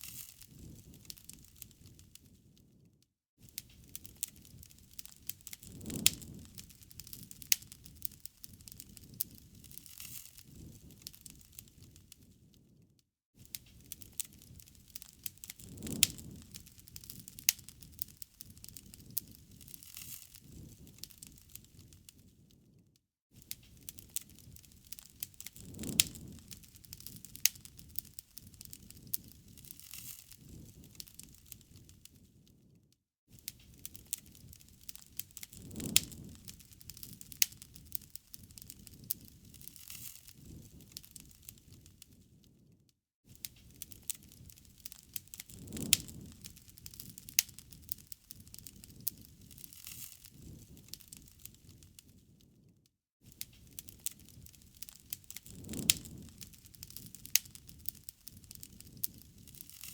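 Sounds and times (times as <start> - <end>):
campfire crackling and popping: 0.0 - 2.6, 3.4 - 12.8, 13.4 - 22.6, 23.4 - 32.5, 33.3 - 42.7, 43.3 - 52.4, 53.3 - 59.9.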